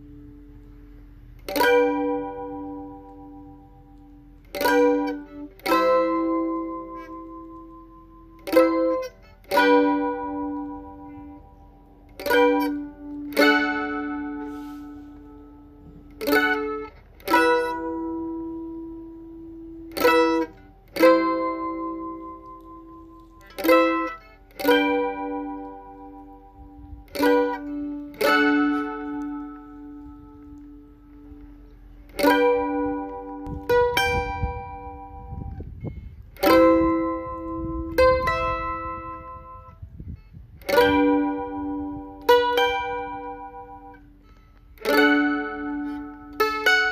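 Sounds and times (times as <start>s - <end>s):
mandolin strummed chords: 0.0s - 46.9s.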